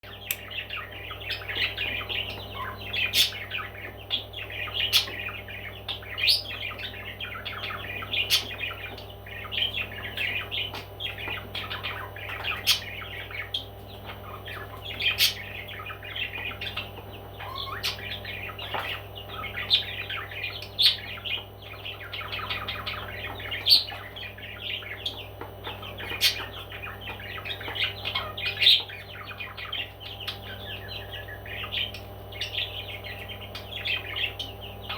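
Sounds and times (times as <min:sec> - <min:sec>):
parrots chattering and chirping: 0:00.0 - 0:34.9
steady low hum: 0:00.0 - 0:34.9.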